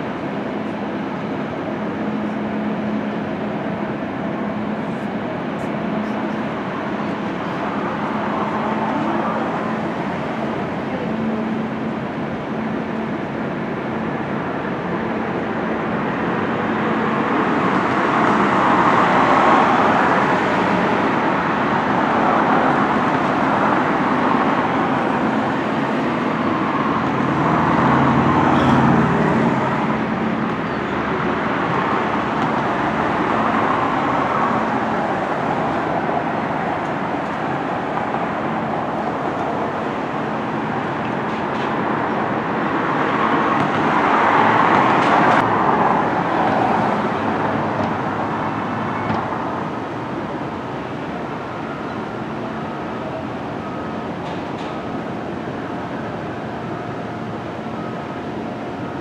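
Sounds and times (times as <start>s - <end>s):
outdoor rushing background noise: 0.0s - 59.0s.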